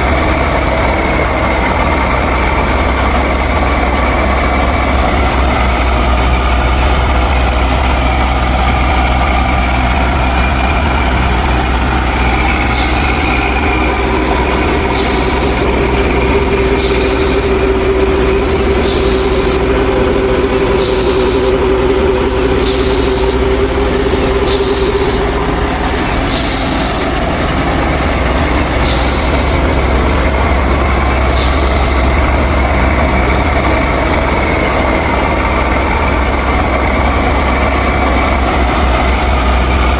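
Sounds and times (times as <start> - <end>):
engine idling with deep hum: 0.0 - 39.9.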